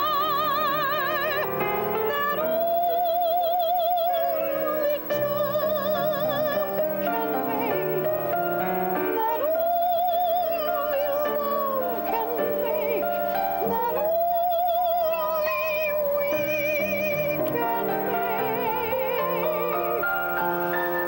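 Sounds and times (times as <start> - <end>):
piano chords: 0.0 - 21.0
woman singing: 0.0 - 21.0.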